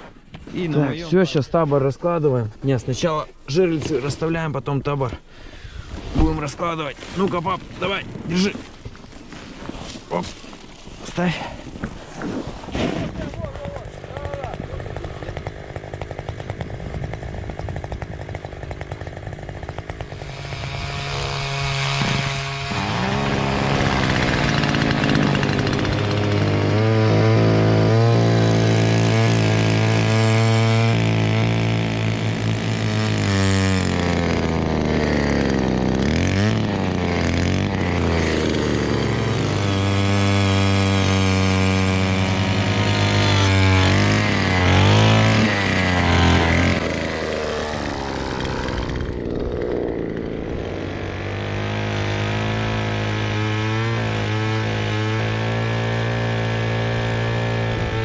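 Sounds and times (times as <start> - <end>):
motor ice auger running: 5.8 - 58.0.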